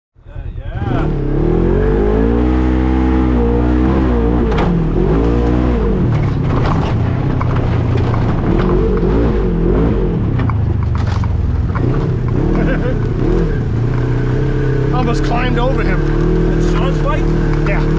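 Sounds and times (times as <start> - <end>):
off-road vehicle engine revving: 0.3 - 17.9.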